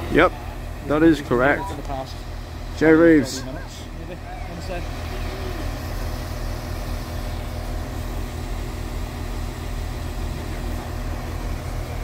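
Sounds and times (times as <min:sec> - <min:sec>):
train diesel engines droning: 0:00.0 - 0:12.0.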